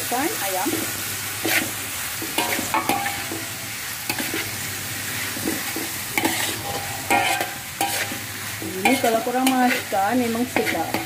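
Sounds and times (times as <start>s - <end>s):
frying sizzle: 0.0s - 11.0s
metal turner scraping wok: 0.6s - 11.0s.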